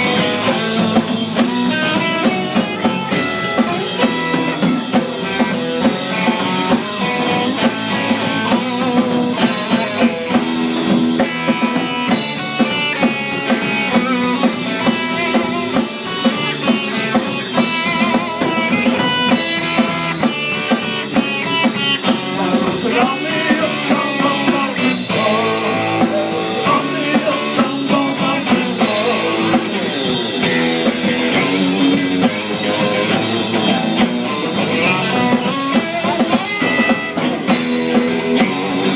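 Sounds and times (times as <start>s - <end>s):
driving drum kit beat: 0.0s - 38.9s
electric guitar melody: 0.0s - 38.9s.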